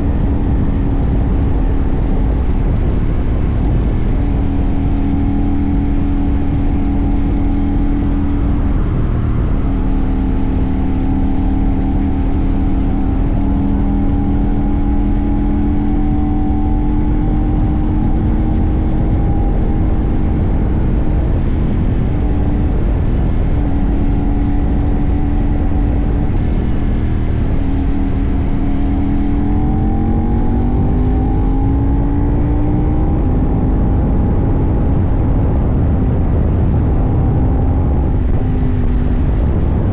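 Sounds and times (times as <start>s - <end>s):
low rumble: 0.0s - 39.9s
motorcycle engine revving: 0.0s - 39.9s.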